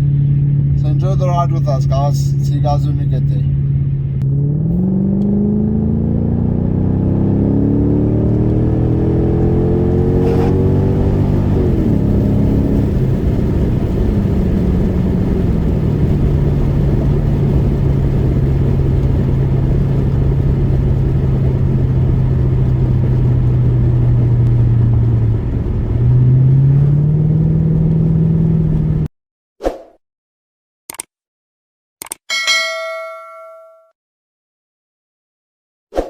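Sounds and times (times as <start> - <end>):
car engine drone: 0.0 - 29.1
road rumble: 0.0 - 29.1.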